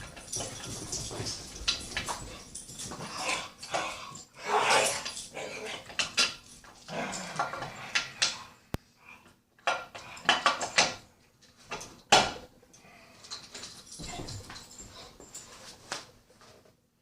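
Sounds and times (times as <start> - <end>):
dogs playing: 0.0 - 16.1.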